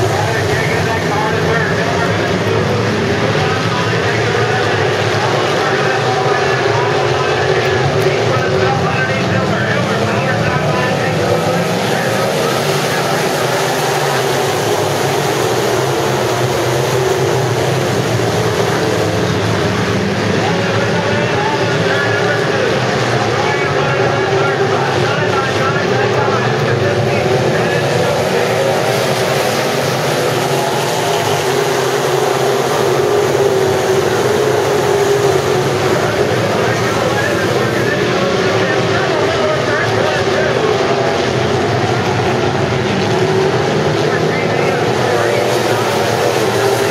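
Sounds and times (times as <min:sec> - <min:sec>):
race car engines droning: 0:00.0 - 0:46.9.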